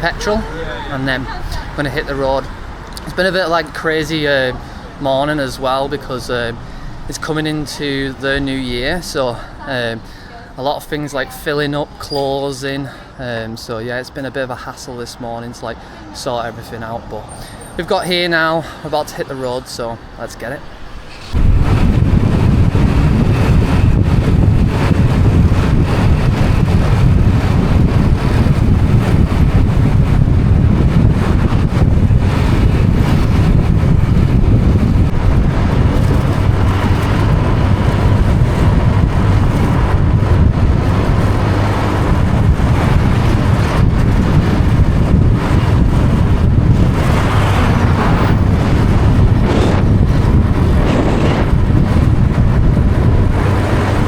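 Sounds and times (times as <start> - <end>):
wind buffeting microphone: 0.0 - 12.2, 20.6 - 54.0
road noise: 0.0 - 54.0.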